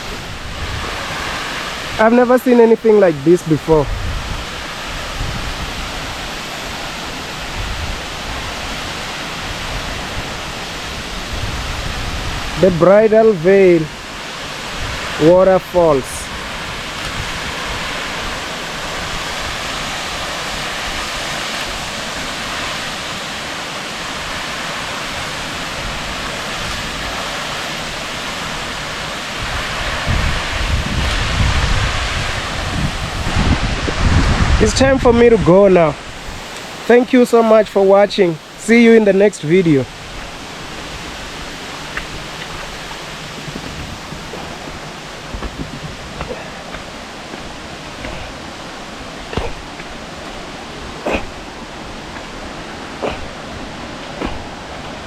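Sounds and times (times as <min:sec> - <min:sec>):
wind buffeting microphone: 0:00.0 - 0:02.1, 0:03.2 - 0:36.8, 0:39.6 - 0:55.0
waterfall rushing water: 0:00.0 - 0:55.0.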